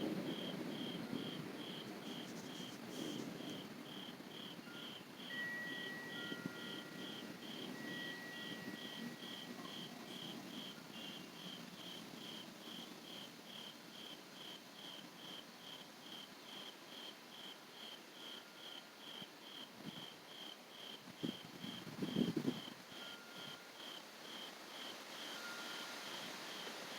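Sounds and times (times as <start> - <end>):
cricket chirping: 0.0 - 26.9.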